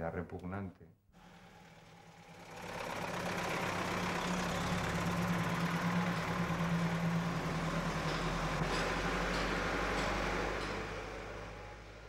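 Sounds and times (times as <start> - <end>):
truck engine humming: 1.4 - 12.0.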